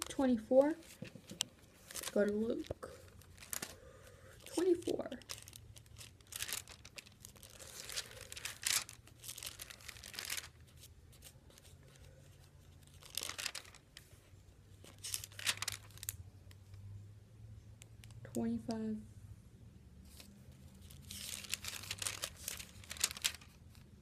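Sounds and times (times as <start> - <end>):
book pages rustling: 0.0 - 3.8, 4.4 - 16.8, 20.1 - 24.0.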